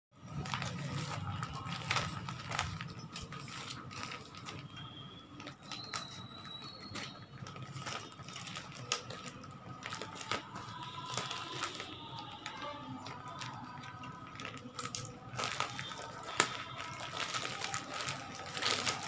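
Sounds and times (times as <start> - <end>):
plastic and tape rustling: 0.2 - 19.0
scissors cutting plastic: 0.4 - 19.0.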